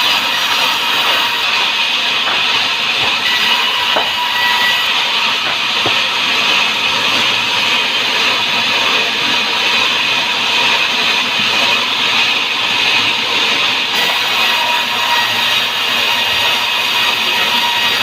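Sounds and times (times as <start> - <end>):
sawmill machinery hissing: 0.0 - 18.0.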